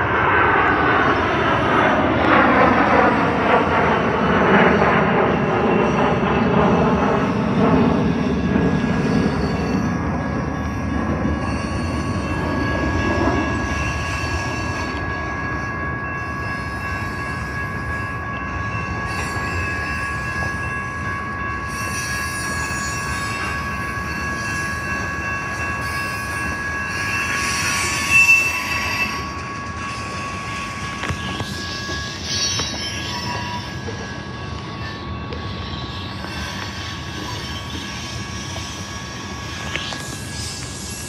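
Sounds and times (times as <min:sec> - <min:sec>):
high ringing tones: 0:00.0 - 0:41.0
sharp high squeal: 0:00.0 - 0:41.0
train wheels rumbling on rail: 0:00.9 - 0:41.0.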